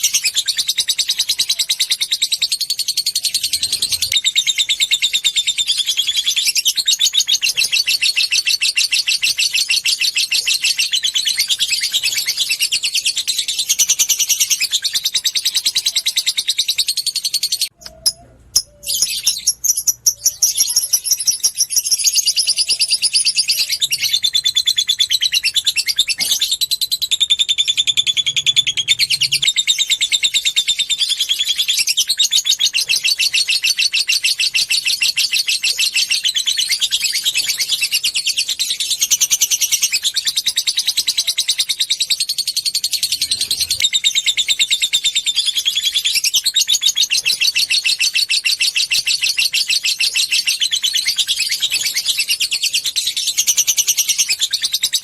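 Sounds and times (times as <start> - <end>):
lovebird chattering trill: 0.0 - 55.0.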